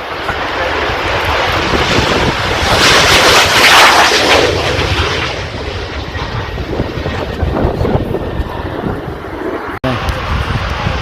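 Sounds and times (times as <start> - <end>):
aircraft roaring past: 0.0 - 11.0.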